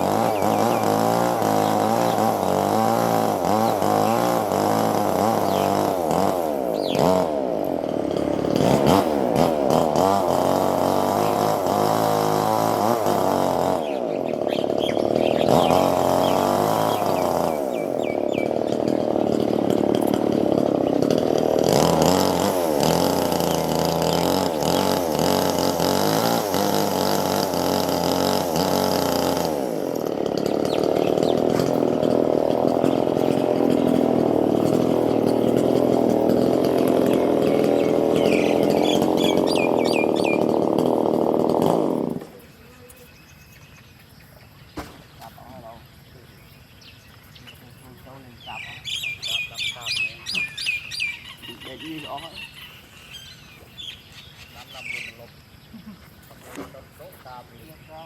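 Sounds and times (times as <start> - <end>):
small engine revving: 0.0 - 58.0.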